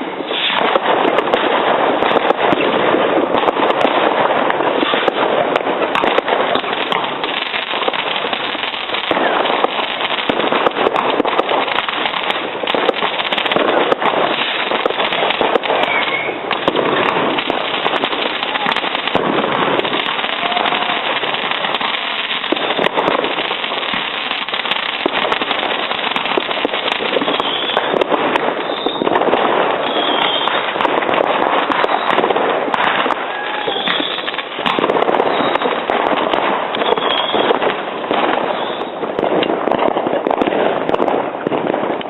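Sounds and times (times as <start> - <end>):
high firework whistles: 0.0 - 40.1
fireworks and firecrackers crackling: 0.0 - 42.0.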